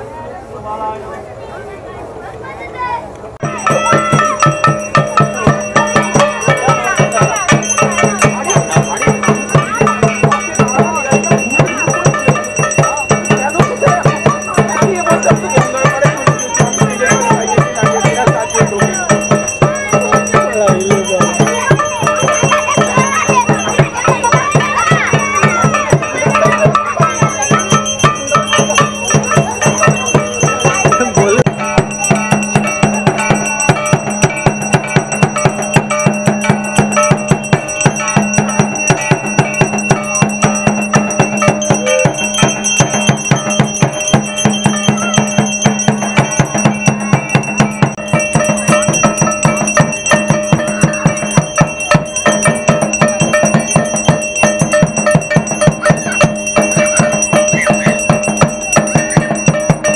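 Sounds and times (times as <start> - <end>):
bells and jingling percussion: 3.4 - 59.9
drum beating fast rhythm: 3.4 - 59.9.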